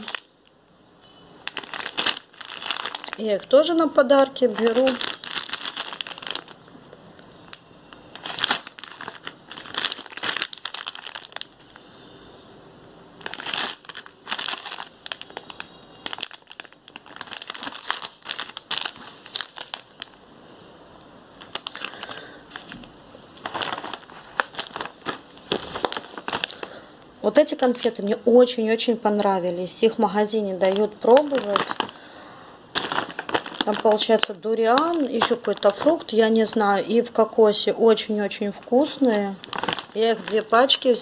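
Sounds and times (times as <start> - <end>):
plastic packets crinkling: 0.0 - 0.6, 1.4 - 11.8, 13.2 - 20.3, 21.3 - 28.4, 29.8 - 37.2, 38.0 - 41.0.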